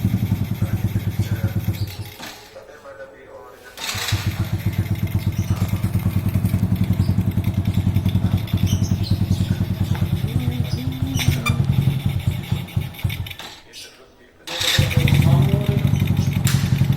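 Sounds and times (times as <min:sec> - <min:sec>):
motorcycle engine puttering: 0:00.0 - 0:02.8, 0:03.7 - 0:13.8, 0:14.4 - 0:16.9.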